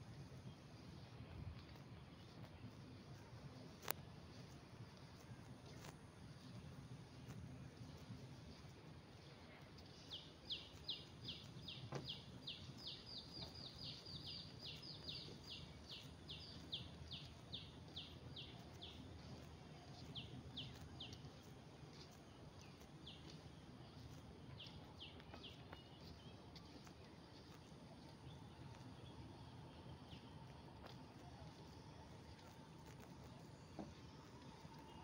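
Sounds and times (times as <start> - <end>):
faint outdoor hum: 0.0 - 35.0.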